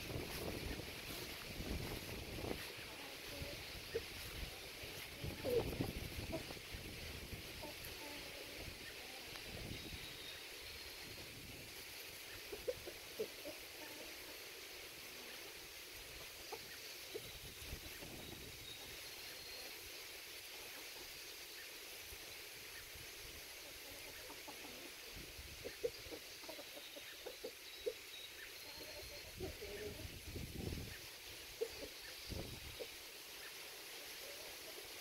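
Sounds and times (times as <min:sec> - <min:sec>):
outdoor hiss: 0:00.0 - 0:35.0
hens clucking softly: 0:00.1 - 0:09.7, 0:12.0 - 0:14.6, 0:15.2 - 0:19.4, 0:22.6 - 0:35.0.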